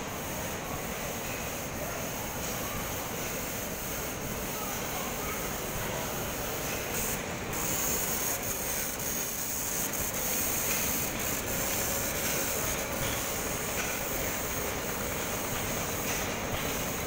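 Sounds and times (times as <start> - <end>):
machinery hiss and rumble: 0.0 - 17.0.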